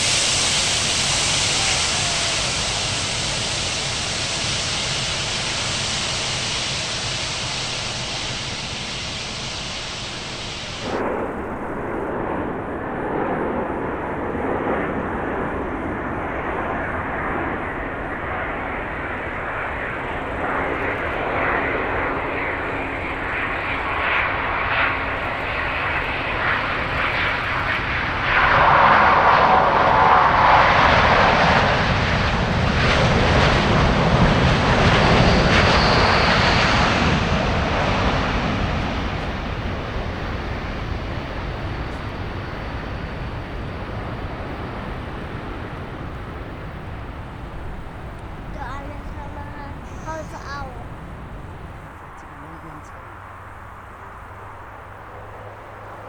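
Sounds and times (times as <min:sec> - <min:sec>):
continuous jet engine sound: 0:00.0 - 0:56.0
jet engine rushing: 0:00.0 - 0:56.0.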